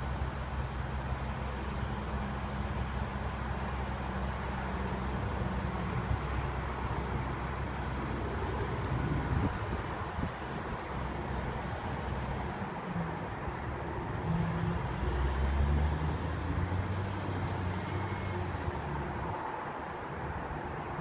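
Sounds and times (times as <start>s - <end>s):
garbage truck diesel engine: 0.0s - 19.3s.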